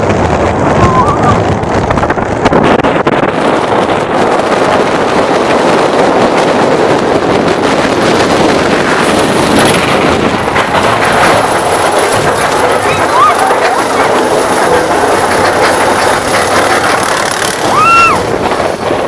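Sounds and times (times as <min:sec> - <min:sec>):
roller coaster wheels rumbling: 0:00.0 - 0:19.0
wind buffeting microphone: 0:00.0 - 0:19.0.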